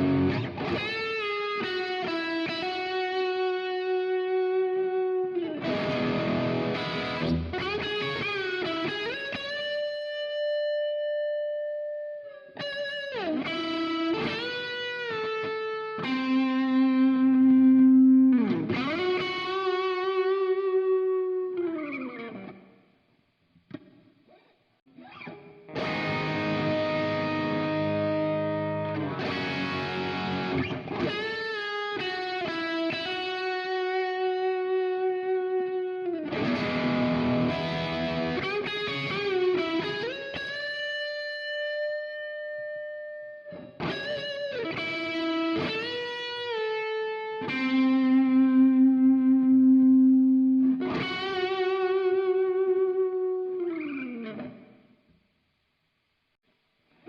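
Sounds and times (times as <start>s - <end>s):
electric guitar melody: 0.0s - 22.8s, 23.7s - 54.9s.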